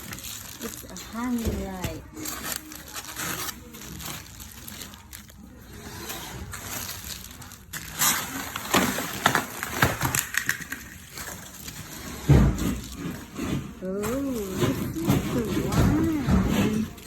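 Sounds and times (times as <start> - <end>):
rustling: 0.0 - 17.0
scraping: 0.0 - 17.0.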